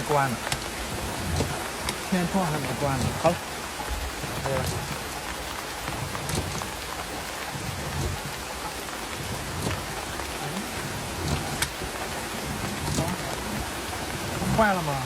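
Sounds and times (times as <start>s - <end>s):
raindrops clicking on vehicle: 0.0s - 15.0s
torrential rain pouring: 0.0s - 15.0s.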